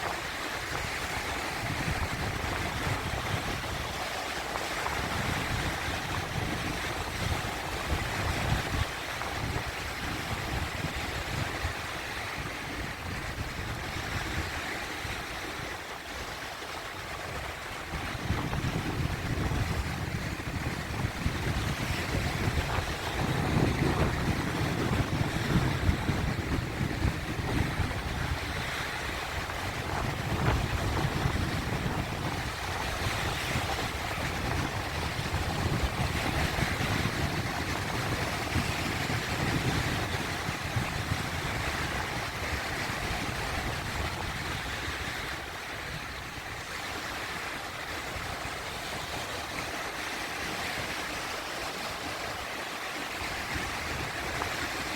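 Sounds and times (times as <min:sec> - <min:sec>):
sea waves breaking among rocks: 0:00.0 - 0:54.9.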